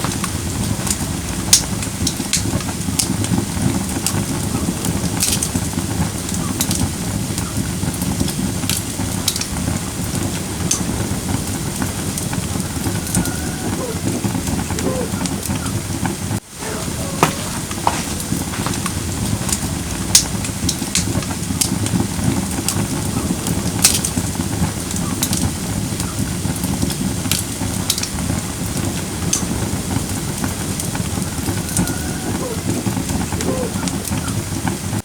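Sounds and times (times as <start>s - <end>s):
flames rushing: 0.0s - 35.0s
wood crackling and popping: 0.0s - 35.0s.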